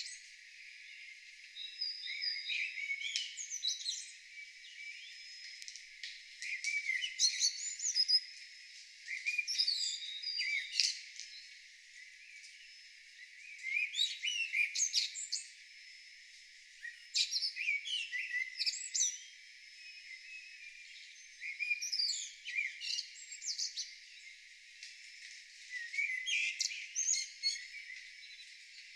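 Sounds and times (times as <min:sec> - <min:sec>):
songbirds singing: 0:00.0 - 0:28.9.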